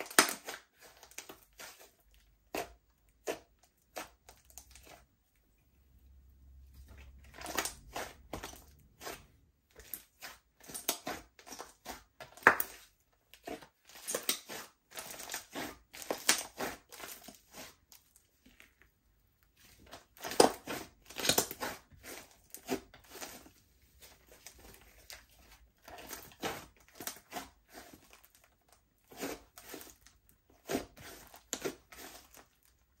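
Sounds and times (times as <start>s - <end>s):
slime squishing wet crackling: 0.0s - 5.4s, 6.8s - 18.9s, 19.6s - 30.0s.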